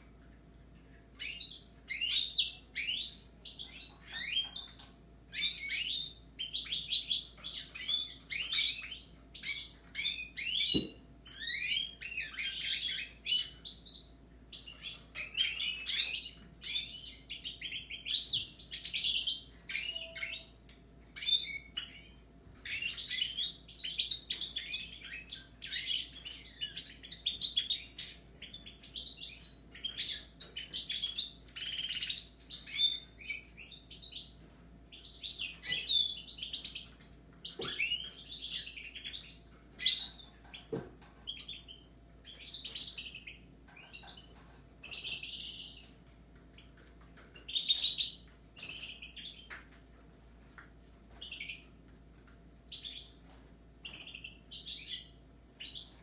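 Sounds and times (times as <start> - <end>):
finches and canaries singing: 0.0 - 56.0.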